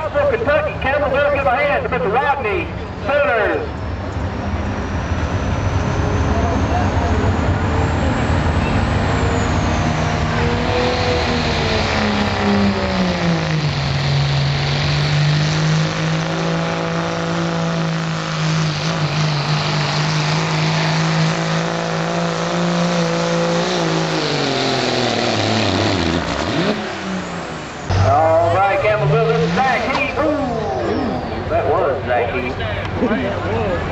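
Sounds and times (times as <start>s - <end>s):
diesel truck engine under load: 0.0s - 33.9s.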